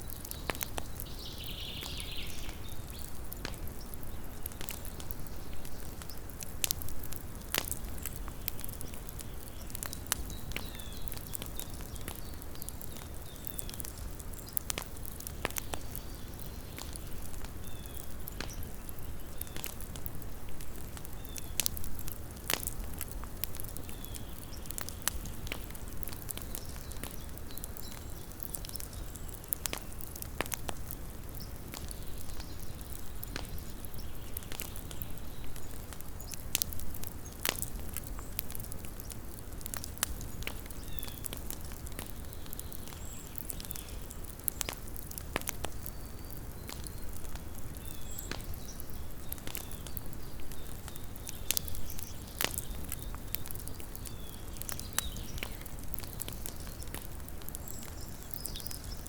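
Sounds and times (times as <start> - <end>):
campfire crackling and popping: 0.0 - 59.0
fire rumbling: 0.0 - 59.0.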